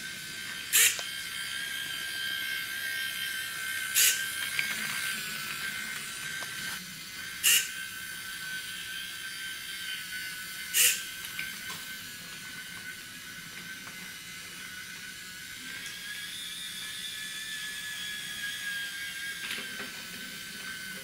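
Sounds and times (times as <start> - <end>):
servo whirr: 0.0 - 21.0
toy train motor whining: 0.0 - 21.0.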